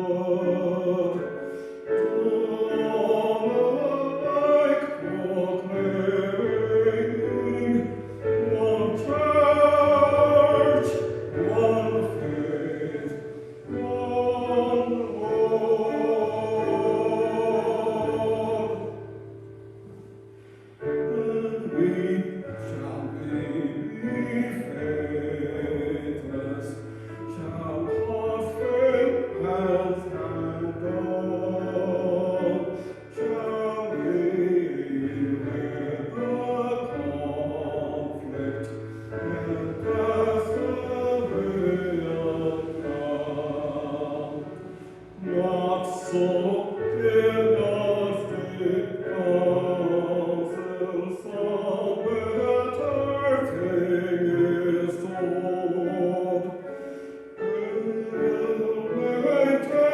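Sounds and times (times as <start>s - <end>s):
congregation singing a hymn: 0.0s - 20.5s, 21.1s - 59.9s
sustained accompaniment: 0.0s - 59.9s.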